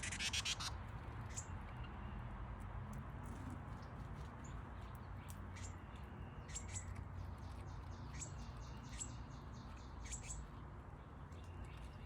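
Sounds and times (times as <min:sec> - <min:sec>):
small birds chirping: 0:00.0 - 0:02.3, 0:03.2 - 0:12.0.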